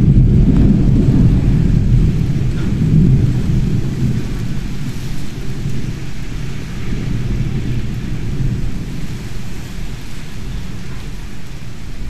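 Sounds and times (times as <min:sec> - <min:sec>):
rain hissing: 0:00.0 - 0:12.0
thunder rumbling: 0:00.0 - 0:12.0.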